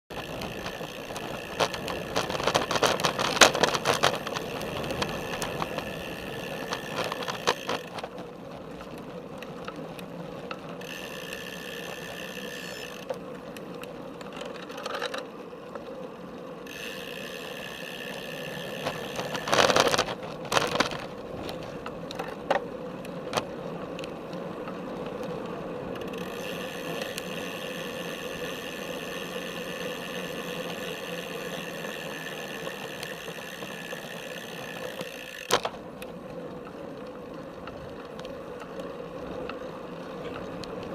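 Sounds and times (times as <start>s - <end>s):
bicycle rolling noise: 0.0s - 40.9s
bike frame rattling: 0.1s - 15.9s, 16.6s - 40.9s.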